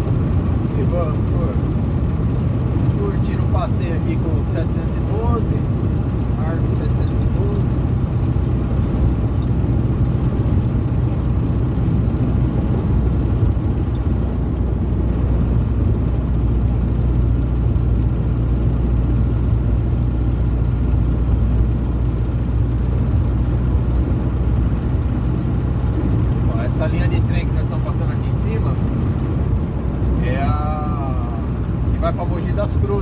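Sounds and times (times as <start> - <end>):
diesel engine droning: 0.0 - 33.0
tyre and road noise: 0.0 - 33.0.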